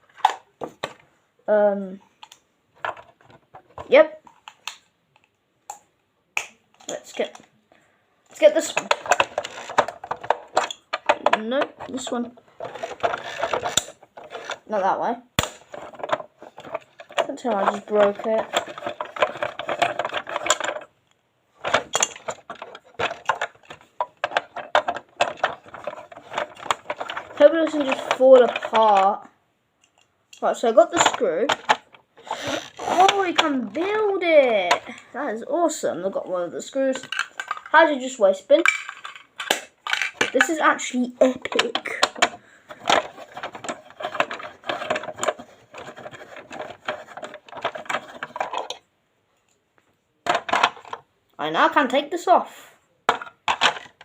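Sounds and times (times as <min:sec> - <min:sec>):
plastic toy parts clicking: 0:02.2 - 0:07.5, 0:08.5 - 0:14.7, 0:15.4 - 0:20.9, 0:21.6 - 0:29.2, 0:29.8 - 0:35.0, 0:36.9 - 0:48.8, 0:50.2 - 0:51.0, 0:53.1 - 0:54.0.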